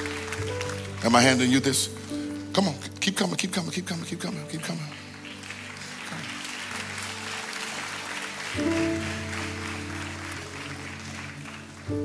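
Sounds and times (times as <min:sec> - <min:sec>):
scattered applause: 0:00.0 - 0:02.8, 0:04.2 - 0:12.0
keyboard sustained chords: 0:00.0 - 0:12.0.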